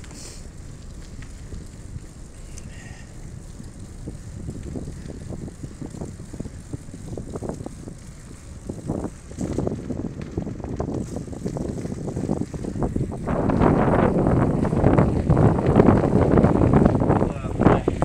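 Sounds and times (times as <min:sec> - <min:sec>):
bicycle rolling on dirt trail: 0:00.0 - 0:18.0
wind on microphone: 0:00.0 - 0:18.0.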